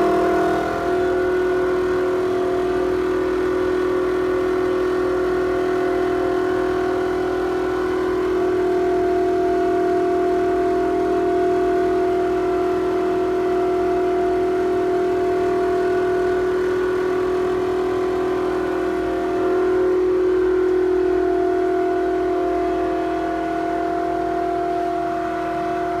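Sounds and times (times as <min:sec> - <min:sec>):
ventilation fan whining drone: 0:00.0 - 0:26.0.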